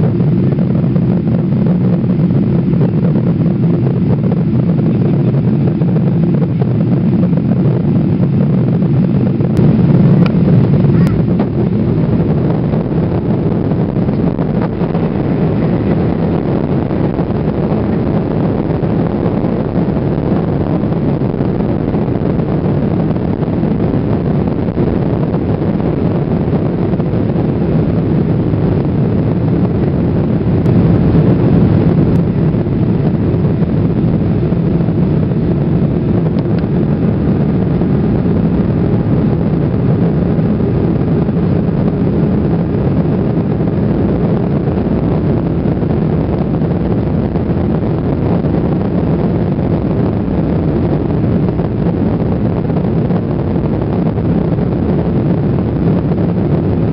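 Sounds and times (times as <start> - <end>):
airflow past fuselage: 0.0 - 53.6
jet engines rumbling: 0.0 - 56.9.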